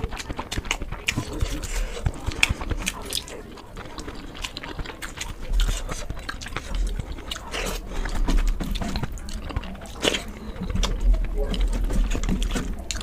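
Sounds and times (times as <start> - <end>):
mouth clicks and smacks: 0.0 - 13.0
person chewing food: 0.0 - 13.0.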